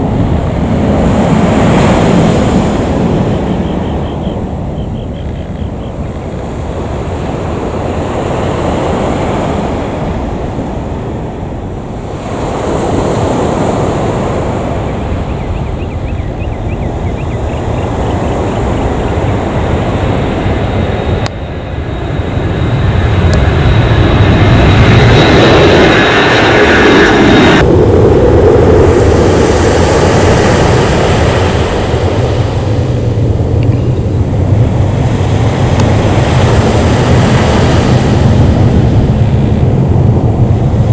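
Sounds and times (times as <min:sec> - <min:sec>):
jet engines roaring: 0:00.0 - 0:40.9
low drone of climbing airliner: 0:00.0 - 0:40.9.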